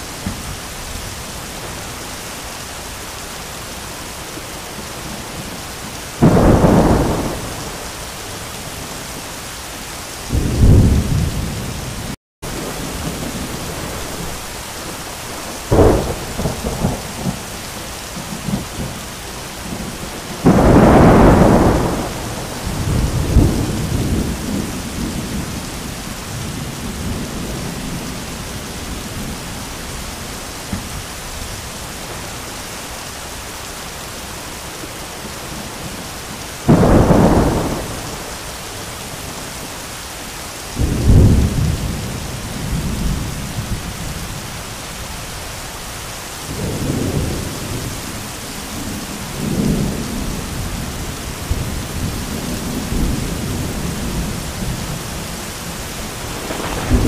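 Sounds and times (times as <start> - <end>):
heavy rain pouring: 0.0 - 57.0
thunder claps and rumbling: 4.4 - 9.3, 10.2 - 32.3, 35.1 - 39.7, 40.7 - 45.2, 46.4 - 57.0.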